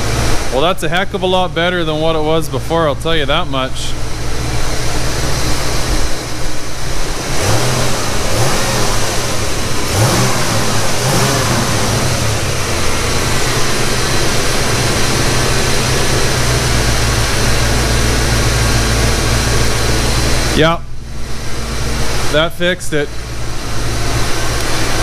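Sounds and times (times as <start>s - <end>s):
car engine idling: 0.0s - 25.0s
car engine revving: 0.0s - 25.0s.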